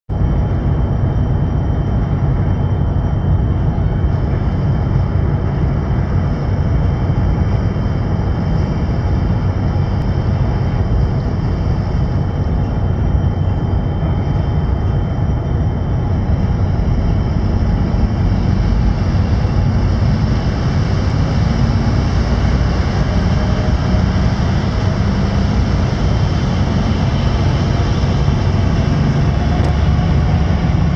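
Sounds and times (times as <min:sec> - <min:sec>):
boat engines droning: 0:00.2 - 0:30.9.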